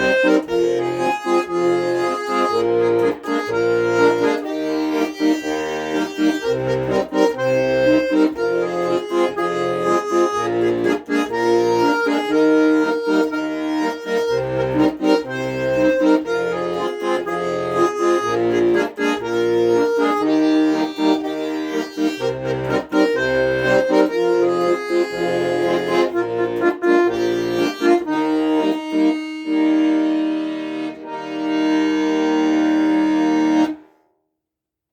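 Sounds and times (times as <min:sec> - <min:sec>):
bass notes beat: 0:00.0 - 0:33.7
accordion melody: 0:00.0 - 0:34.0.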